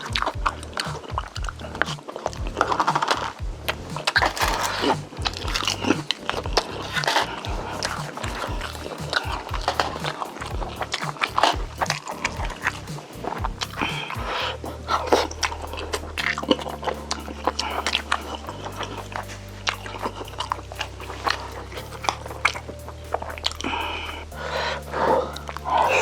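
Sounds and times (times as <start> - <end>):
background music with low notes: 0.0 - 26.0
close chewing and biting: 0.0 - 26.0.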